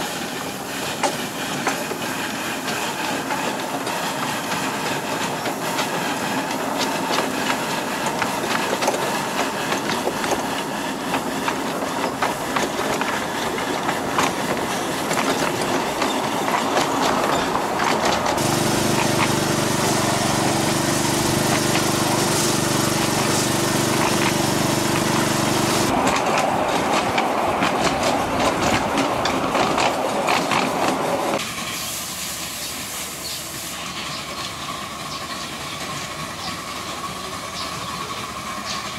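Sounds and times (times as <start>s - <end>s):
wheels clattering over rails: 0.0s - 31.4s
steam locomotive running: 0.0s - 38.9s.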